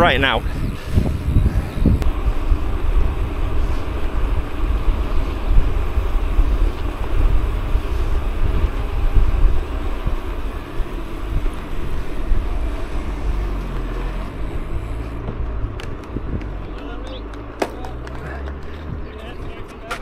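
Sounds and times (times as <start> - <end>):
wind buffeting microphone: 0.0 - 17.3, 18.3 - 20.0.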